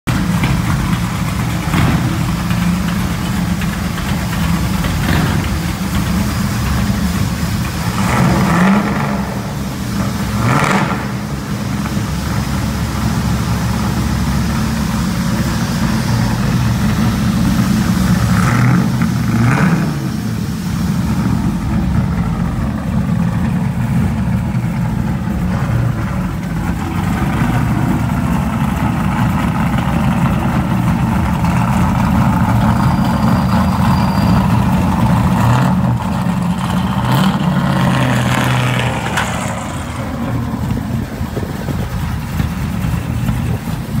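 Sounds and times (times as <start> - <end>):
car engine revving and idling: 0.0 - 44.0.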